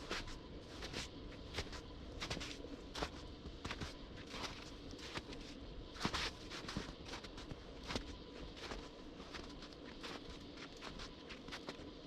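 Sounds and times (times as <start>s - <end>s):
footsteps crunching in snow: 0.0s - 11.9s.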